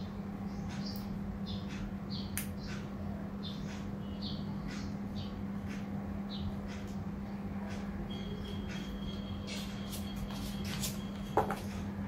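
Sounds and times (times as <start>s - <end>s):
small bird chirping: 0.0s - 6.9s, 7.6s - 11.3s
steady low hum: 0.0s - 12.0s.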